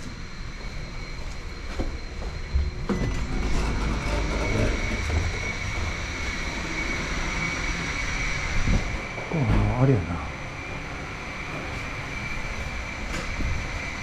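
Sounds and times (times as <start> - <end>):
high-pitched whine: 0.0 - 14.0
machinery low rumble: 0.0 - 14.0.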